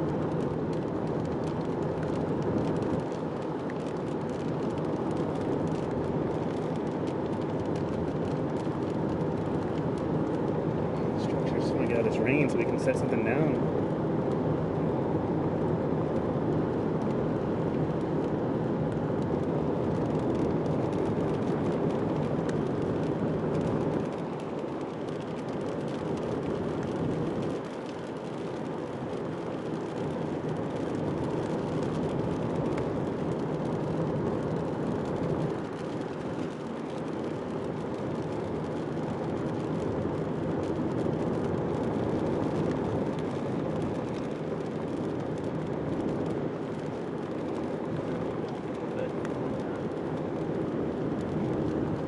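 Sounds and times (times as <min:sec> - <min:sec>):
car road noise rumble: 0:00.0 - 0:52.0.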